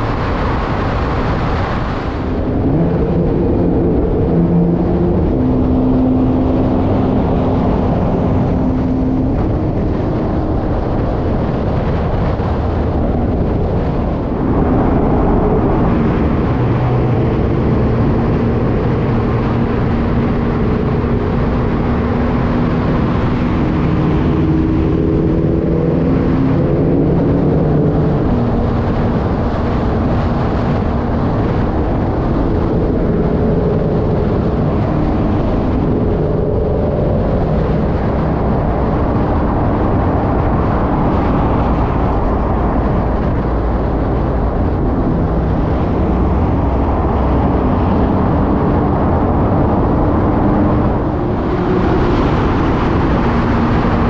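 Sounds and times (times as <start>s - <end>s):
car engine: 0.0s - 54.0s
wind and tyre noise: 0.0s - 54.0s.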